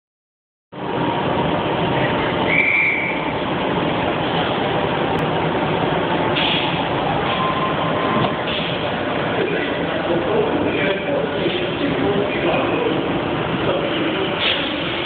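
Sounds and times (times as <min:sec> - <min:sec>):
electric train running noise: 0:00.8 - 0:15.0.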